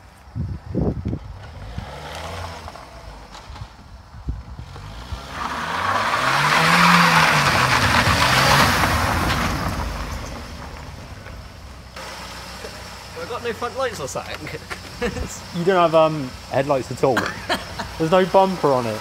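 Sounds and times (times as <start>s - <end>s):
car engine revving: 1.2s - 19.0s.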